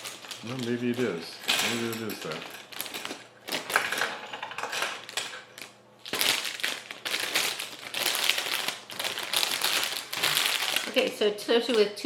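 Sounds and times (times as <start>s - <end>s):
plastic pieces clicking and rustling: 0.0s - 11.8s.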